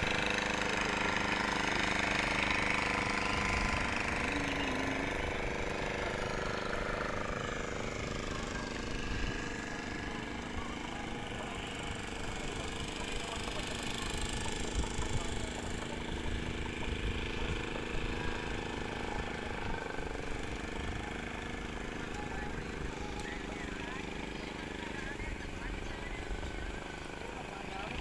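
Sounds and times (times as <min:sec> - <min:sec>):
motor engine running: 0:00.0 - 0:28.0.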